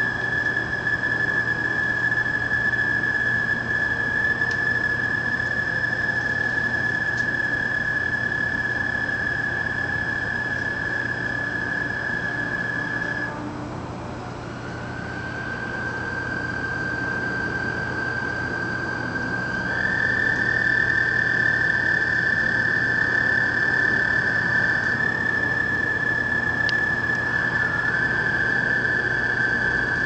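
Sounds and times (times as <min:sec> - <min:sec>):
frog whistle-like call: 0:00.0 - 0:13.4, 0:14.5 - 0:30.0.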